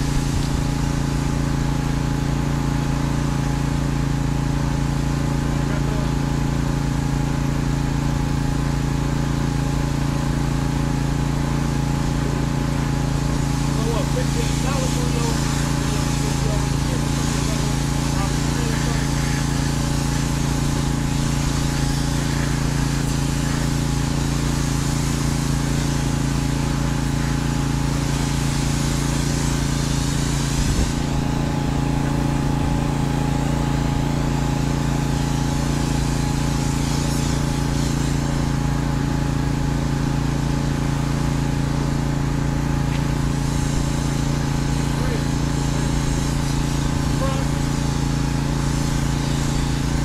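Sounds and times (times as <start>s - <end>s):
engine drone: 0.0s - 50.0s
high-pressure water spray hiss: 0.0s - 50.0s.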